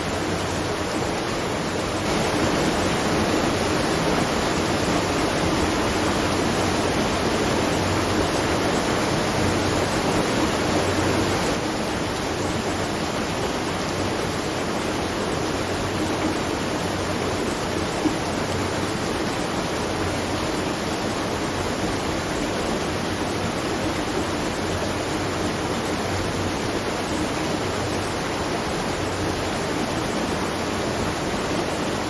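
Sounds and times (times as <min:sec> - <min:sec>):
falling water rushing: 0:00.0 - 0:32.0.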